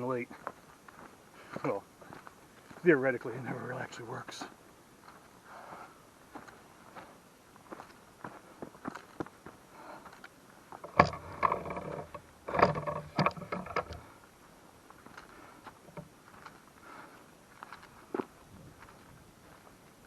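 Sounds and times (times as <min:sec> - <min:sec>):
footsteps on a trail: 0:00.0 - 0:10.8, 0:13.4 - 0:20.0.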